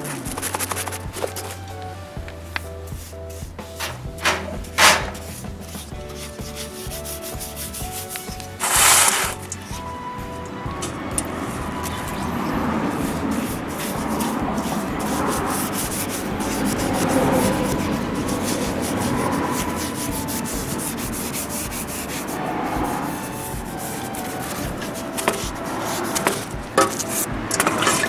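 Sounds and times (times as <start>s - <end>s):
paintbrush scrubbing wood: 0.0s - 1.7s, 2.8s - 10.4s, 11.2s - 28.0s.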